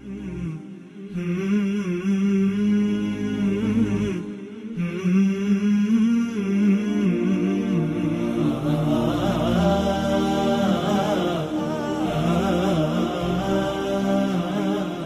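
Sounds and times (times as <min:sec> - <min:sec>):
voice chanting slow melody: 0:00.0 - 0:15.0.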